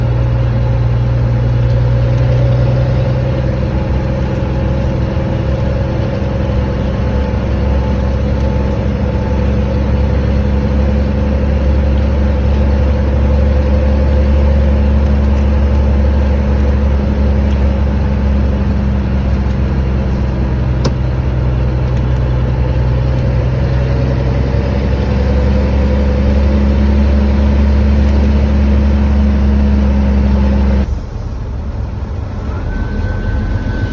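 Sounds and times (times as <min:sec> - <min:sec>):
vehicle engine with loud exhaust: 0:00.0 - 0:33.9.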